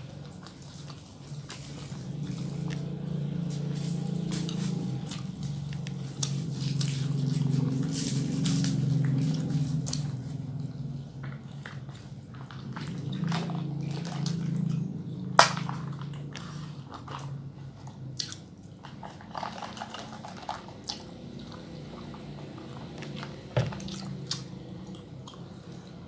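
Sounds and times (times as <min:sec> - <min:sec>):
chewing and biting food: 0:00.0 - 0:26.0.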